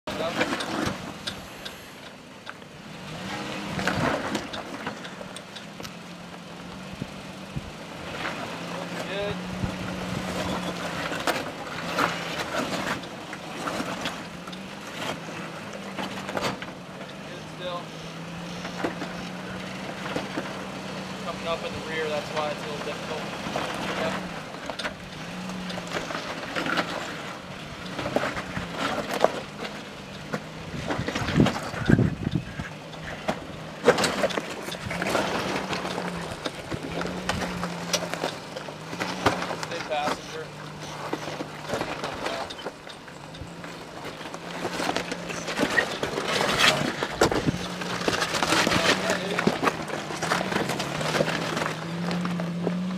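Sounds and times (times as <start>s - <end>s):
rock cracking and scraping under tyres: 0.1s - 6.0s, 8.0s - 52.9s
pickup truck engine running low: 0.1s - 52.9s.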